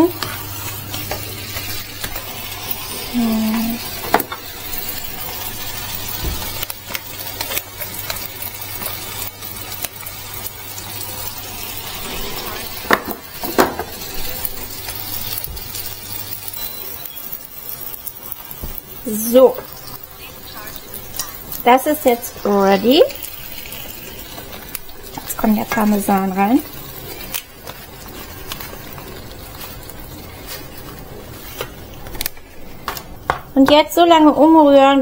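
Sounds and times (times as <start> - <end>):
food sizzling in a pan: 0.0 - 35.0.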